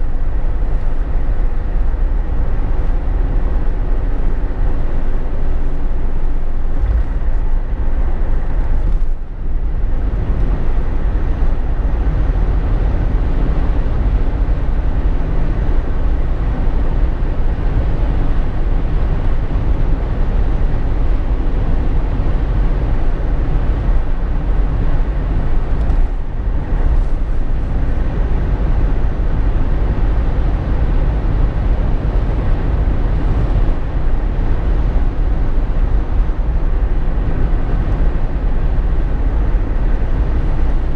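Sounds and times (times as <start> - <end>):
car cabin road drone: 0.0 - 40.9.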